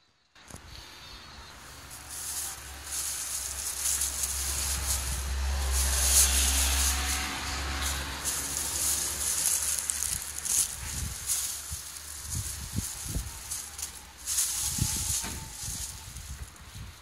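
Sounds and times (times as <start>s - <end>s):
plastic bags crinkling: 1.5s - 17.0s.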